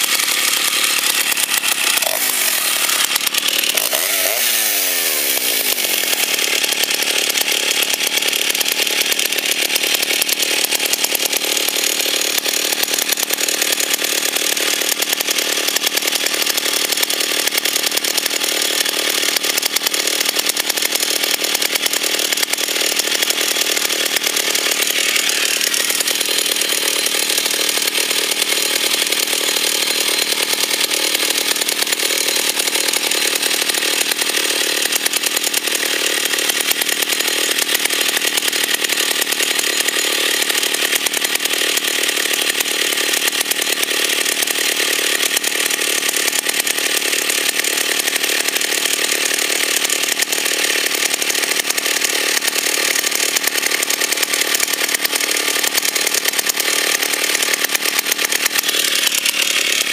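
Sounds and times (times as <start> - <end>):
chainsaw engine idling: 0.0 - 59.9.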